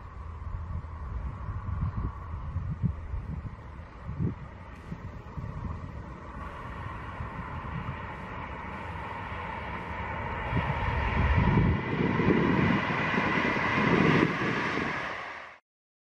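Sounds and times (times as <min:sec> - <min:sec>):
high-speed train running past: 0:00.0 - 0:15.6.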